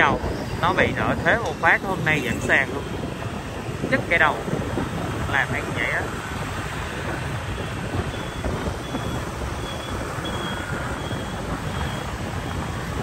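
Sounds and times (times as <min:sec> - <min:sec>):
scooter traffic: 0:00.0 - 0:13.0
wind rumbling on microphone: 0:00.0 - 0:13.0.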